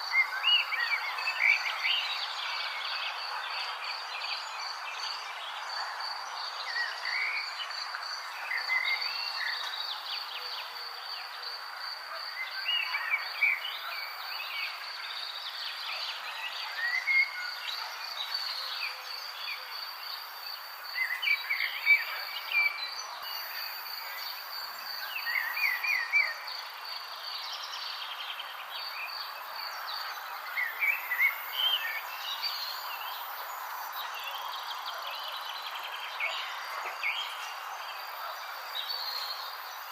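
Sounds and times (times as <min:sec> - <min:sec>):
constant background hiss: 0:00.0 - 0:39.9.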